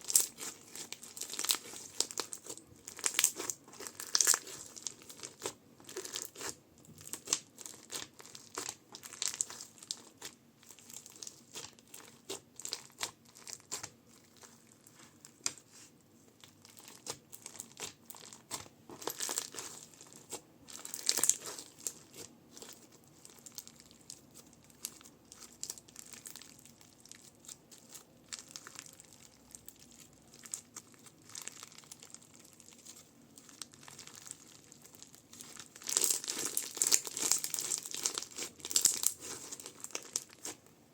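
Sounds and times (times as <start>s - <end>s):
crunchy slime crackling: 0.0s - 40.9s.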